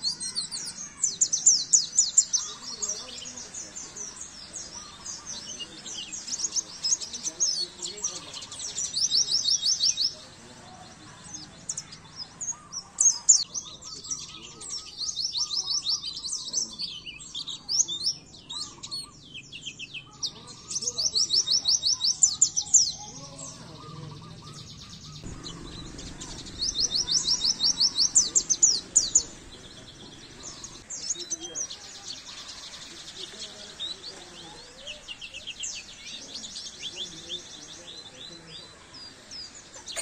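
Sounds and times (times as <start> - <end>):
bird high-pitched chirping trills: 0.0 - 40.0.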